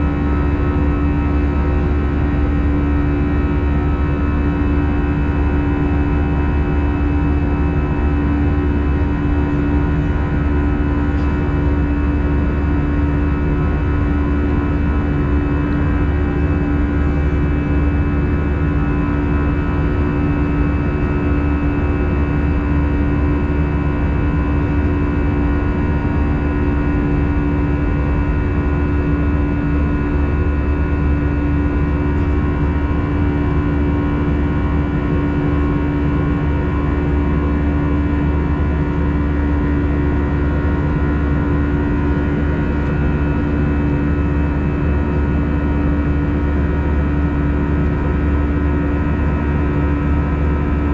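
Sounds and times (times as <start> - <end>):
jet engine cabin drone: 0.0 - 50.9.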